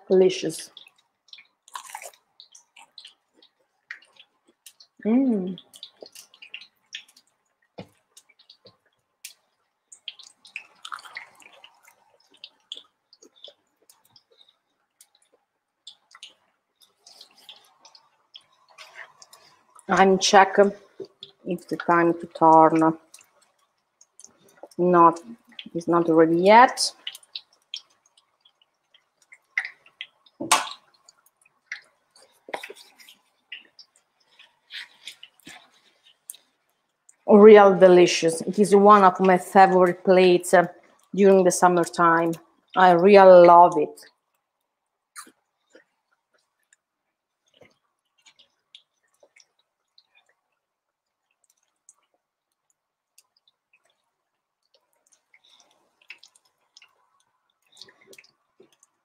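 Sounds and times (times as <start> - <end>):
oil crackling and popping: 0.6 - 37.3, 39.0 - 59.0.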